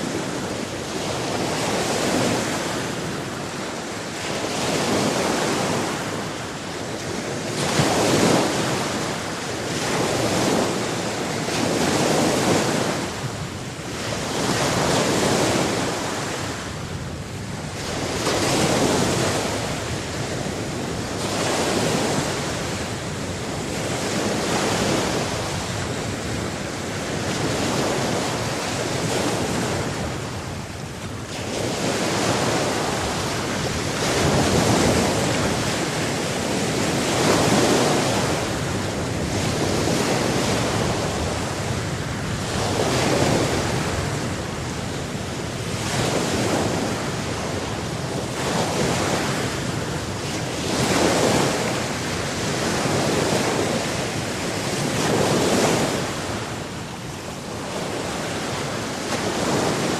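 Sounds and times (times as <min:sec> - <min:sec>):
ocean waves breaking: 0:00.0 - 0:59.9
wind: 0:00.0 - 0:59.9.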